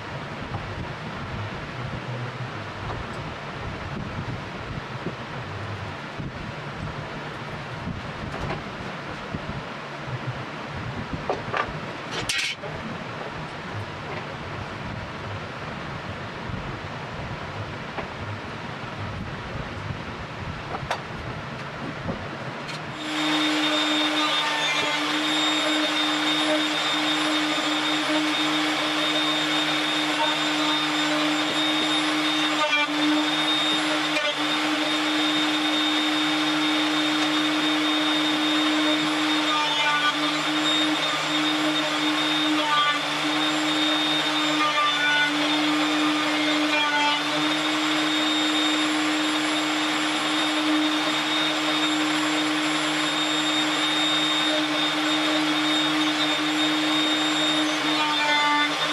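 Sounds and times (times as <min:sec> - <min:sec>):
electric motor rushing hum: 0:00.0 - 0:58.9.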